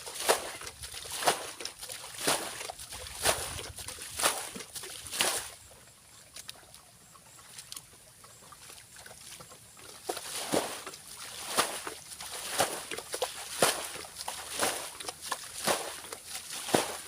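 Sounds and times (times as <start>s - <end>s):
shallow water splashing: 0.0s - 17.0s.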